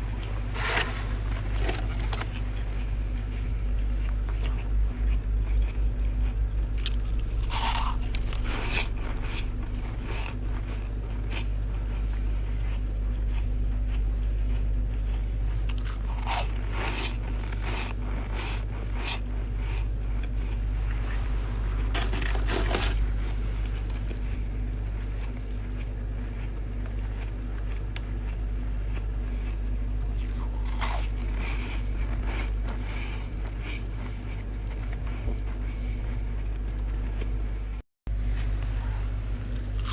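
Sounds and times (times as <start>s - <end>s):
ice being chewed: 0.0s - 37.4s, 39.4s - 39.9s
steady low hum: 0.0s - 39.9s.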